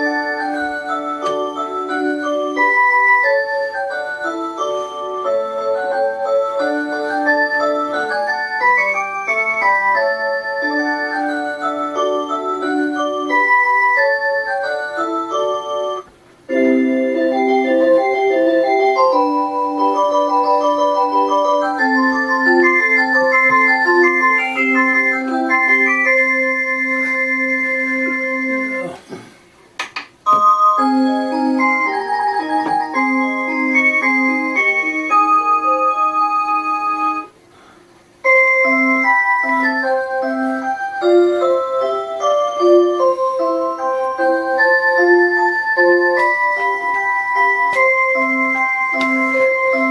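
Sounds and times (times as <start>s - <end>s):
melody-playing clock tune: 0.0s - 28.8s, 30.3s - 37.3s, 38.2s - 49.9s.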